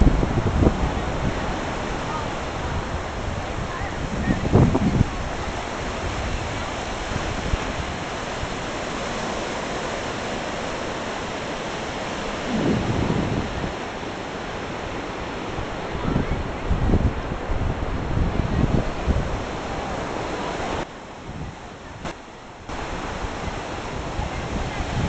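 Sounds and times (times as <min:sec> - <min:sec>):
surf washing up a beach: 0:00.0 - 0:25.0
wind buffeting microphone: 0:00.0 - 0:25.0.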